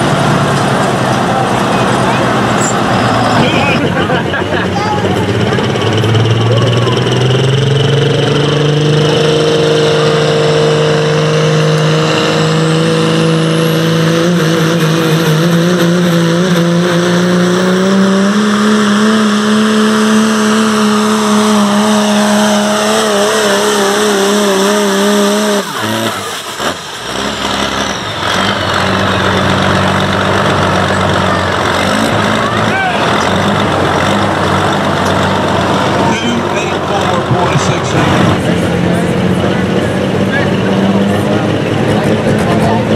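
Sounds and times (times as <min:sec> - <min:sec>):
diesel pickup engine at full throttle: 0:00.0 - 0:42.9.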